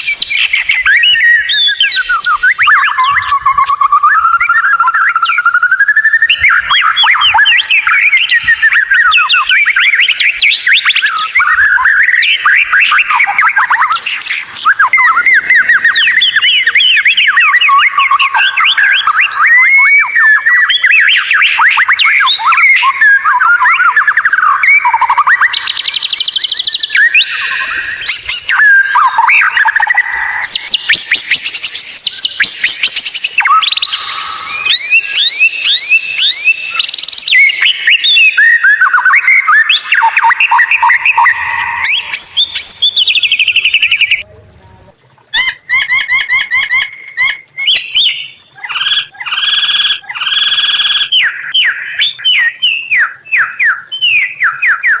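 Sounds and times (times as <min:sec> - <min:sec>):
songbird singing whistled notes: 0:00.0 - 0:44.6, 0:45.2 - 0:55.0.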